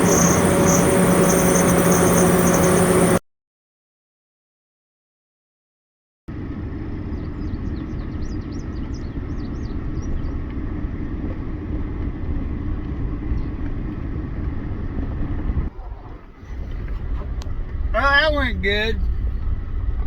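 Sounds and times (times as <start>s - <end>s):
vehicle engine and road rumble: 0.0s - 3.2s, 6.3s - 20.0s.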